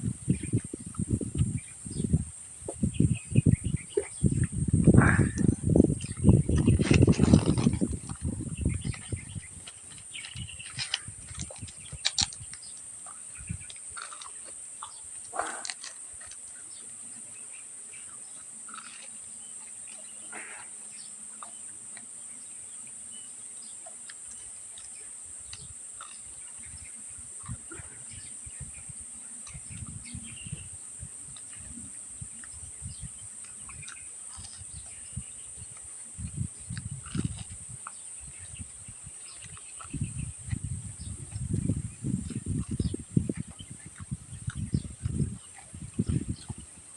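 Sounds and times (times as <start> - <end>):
crunchy eating: 0.2 - 46.9.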